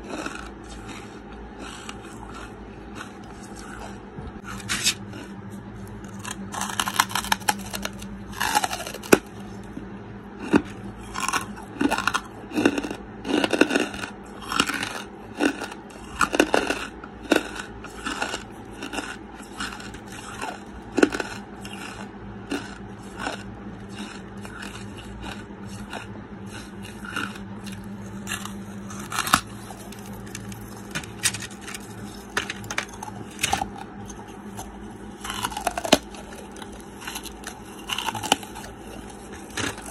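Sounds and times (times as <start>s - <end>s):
chewing crunchy charcoal: 0.0s - 39.9s
low hum: 0.0s - 39.9s.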